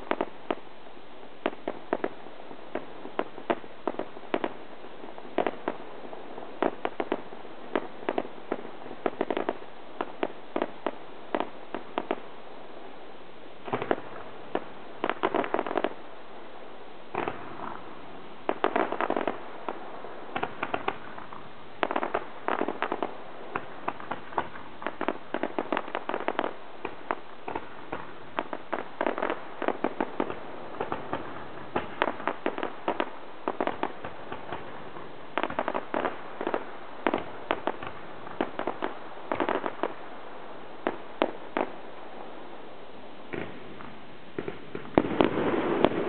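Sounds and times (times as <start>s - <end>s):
fireworks popping and crackling: 0.0s - 13.0s, 13.6s - 16.2s, 17.1s - 46.0s.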